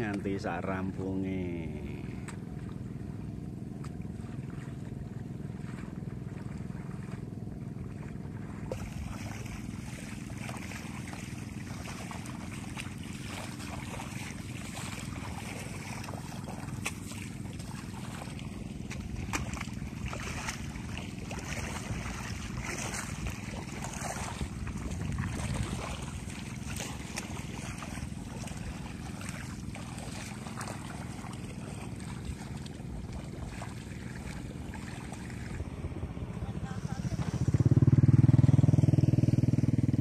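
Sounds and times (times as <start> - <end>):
water and mud swishing: 0.0 - 40.0
low rumble: 1.6 - 40.0.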